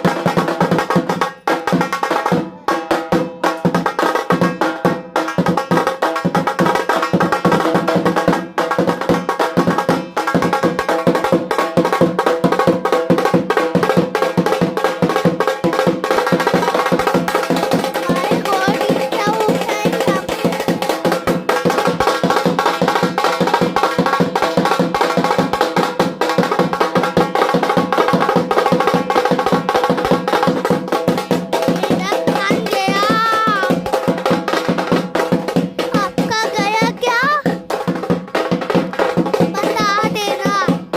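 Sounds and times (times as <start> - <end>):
fast dense percussion: 0.0 - 40.9.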